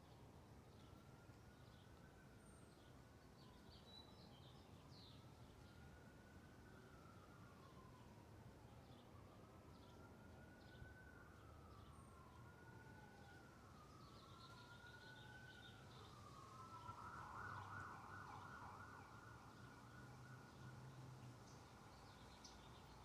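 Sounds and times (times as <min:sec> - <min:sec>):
faint emergency vehicle siren: 0:00.1 - 0:23.0.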